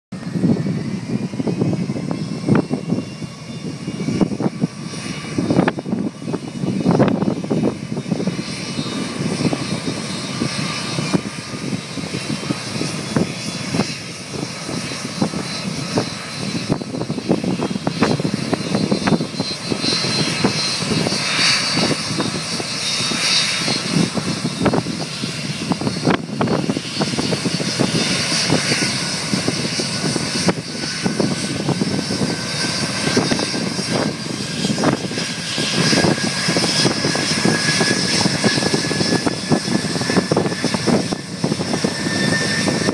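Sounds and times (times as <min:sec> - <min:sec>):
jet engine roaring: 0:00.1 - 0:42.9
whine climbing in pitch: 0:00.1 - 0:42.9.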